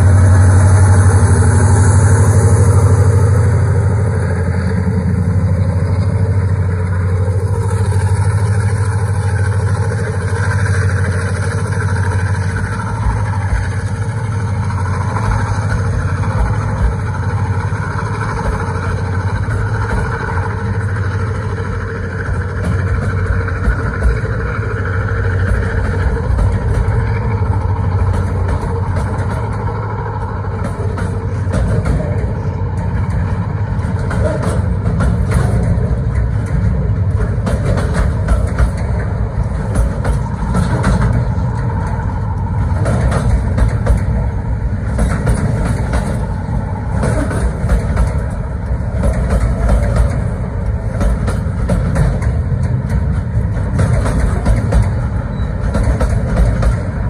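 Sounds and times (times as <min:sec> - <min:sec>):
train wheels rumbling on rails: 0:00.0 - 0:57.0
wagons clicking and clanking: 0:04.5 - 0:57.0.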